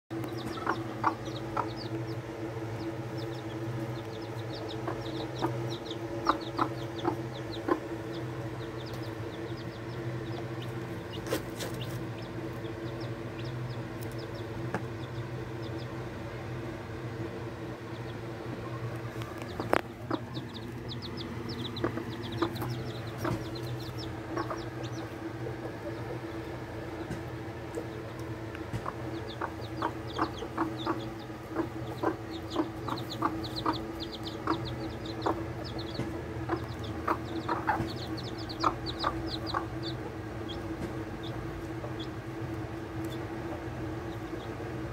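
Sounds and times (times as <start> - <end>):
chicks peeping: 0.1 - 44.9
hen clucking: 0.1 - 44.9
steady low hum: 0.1 - 44.9.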